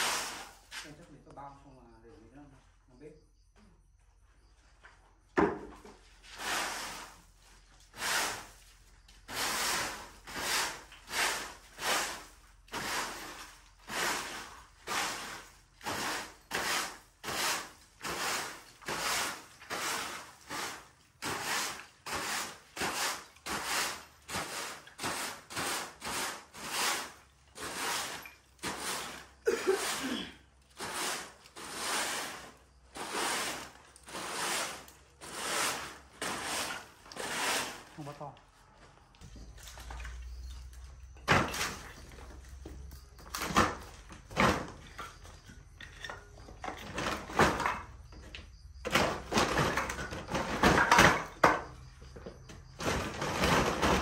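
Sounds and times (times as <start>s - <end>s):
hand tool scraping strokes: 0.0s - 1.0s, 6.0s - 54.0s.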